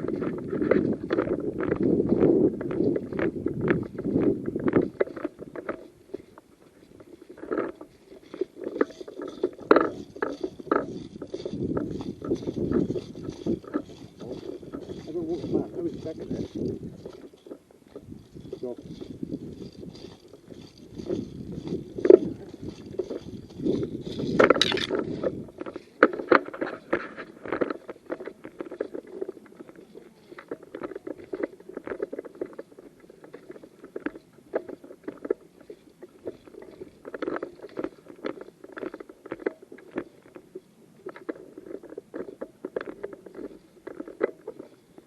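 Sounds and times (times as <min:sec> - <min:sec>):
clothing rustling against camera: 0:00.0 - 0:45.0
scraping and knocking on microphone: 0:00.0 - 0:45.0.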